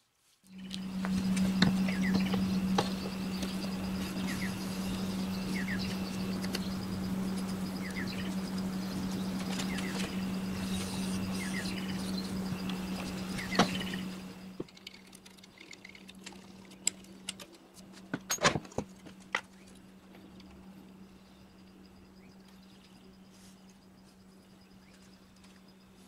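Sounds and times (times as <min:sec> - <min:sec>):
steady low hum: 0:00.4 - 0:26.0.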